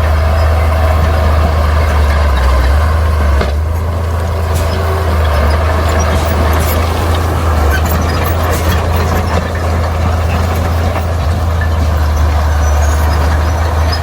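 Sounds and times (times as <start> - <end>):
diesel machinery engine running: 0.0 - 14.0.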